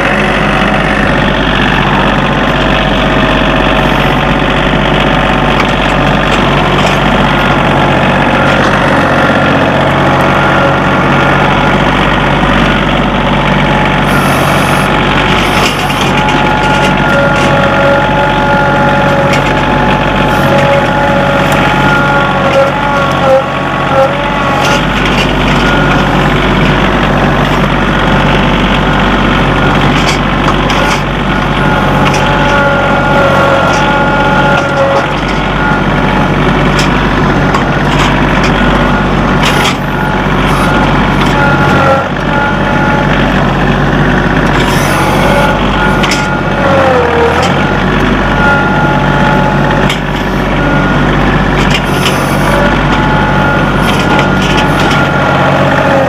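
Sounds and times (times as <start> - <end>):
high whine: 0.0 - 56.0
tractor engine running: 0.0 - 56.0.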